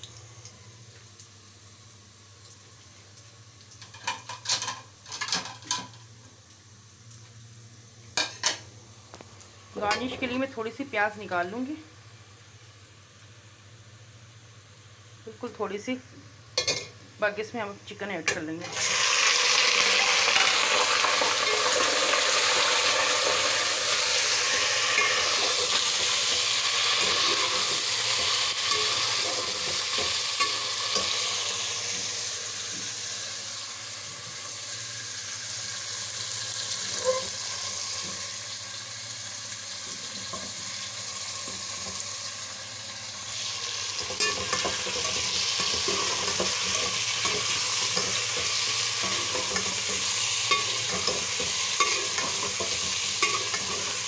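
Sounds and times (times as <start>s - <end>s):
chicken sizzling in oil: 0.0s - 15.9s, 18.7s - 54.0s.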